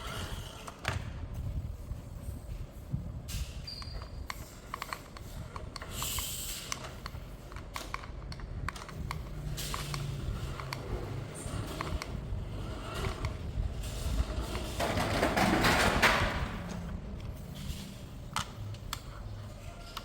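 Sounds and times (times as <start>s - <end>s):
plastic toy clicks and creaks: 3.7s - 20.0s.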